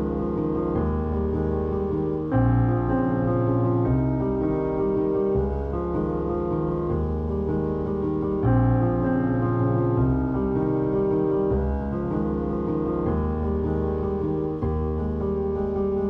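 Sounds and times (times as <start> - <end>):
low bass: 0.0 - 16.0
slow piano chords: 0.0 - 16.0.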